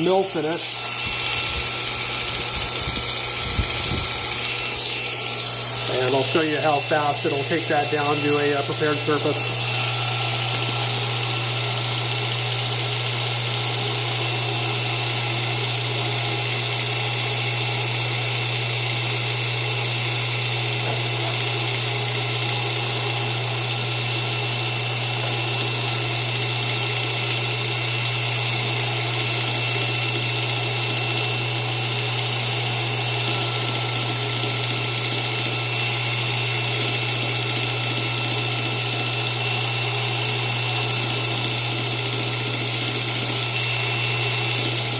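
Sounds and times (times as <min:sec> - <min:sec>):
belt grinder whining: 0:00.0 - 0:44.9.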